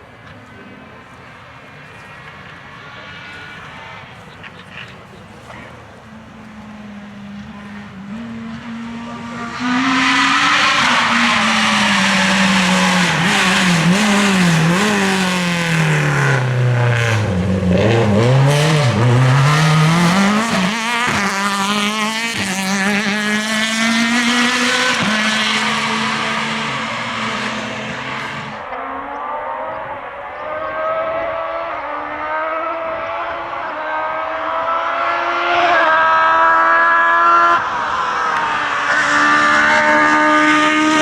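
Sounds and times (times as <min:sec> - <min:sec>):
rally car engine revving: 0:00.2 - 0:41.0.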